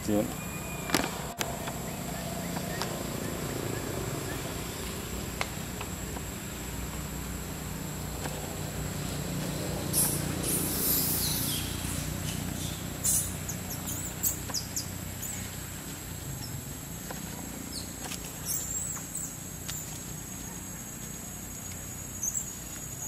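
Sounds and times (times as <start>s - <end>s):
low steady hum: 0.0s - 22.8s
high-pitched insect whine: 0.0s - 23.0s.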